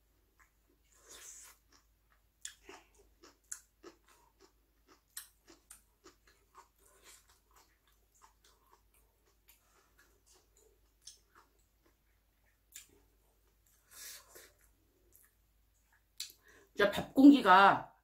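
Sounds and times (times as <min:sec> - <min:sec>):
person chewing food: 0:00.2 - 0:16.7.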